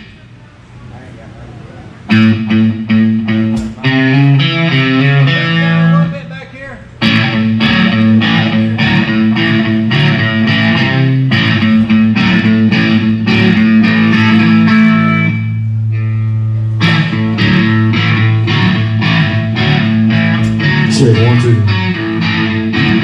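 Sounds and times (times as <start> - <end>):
guitar strumming chords: 2.1 - 5.9, 7.0 - 23.0.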